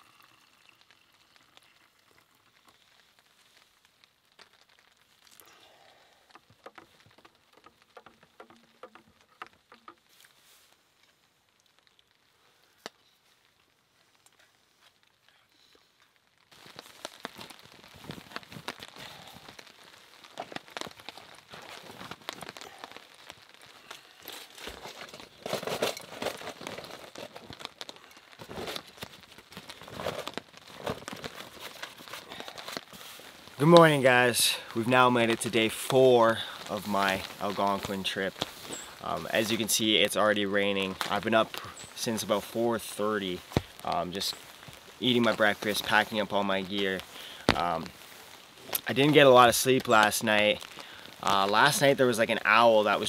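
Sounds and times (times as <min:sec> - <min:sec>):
camping gear crinkling and rustling: 0:00.0 - 0:53.0
raindrops ticking: 0:00.0 - 0:53.0.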